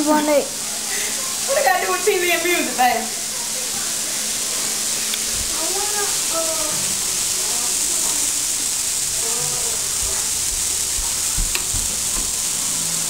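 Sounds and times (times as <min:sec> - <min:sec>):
chicken sizzling: 0:00.0 - 0:13.0.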